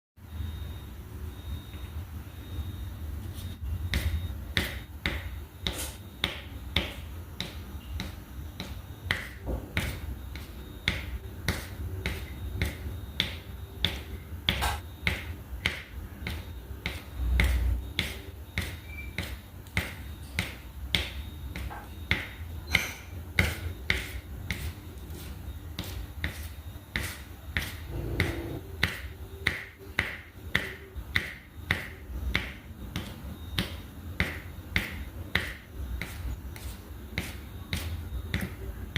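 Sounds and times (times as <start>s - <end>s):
low background hum: 0.2s - 38.9s.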